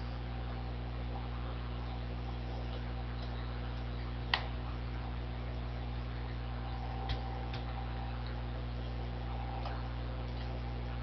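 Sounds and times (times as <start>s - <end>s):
electrical mains hum and hiss: 0.0s - 11.0s.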